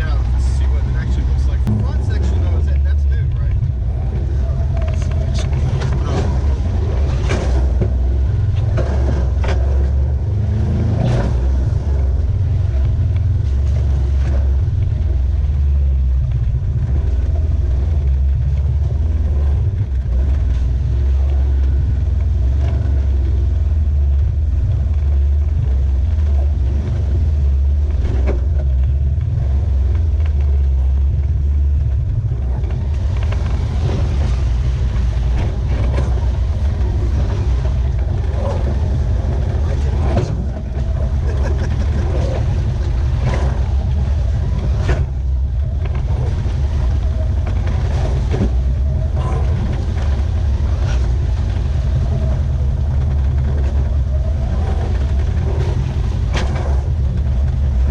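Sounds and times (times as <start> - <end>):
vehicle engine low rumble: 0.0 - 57.9.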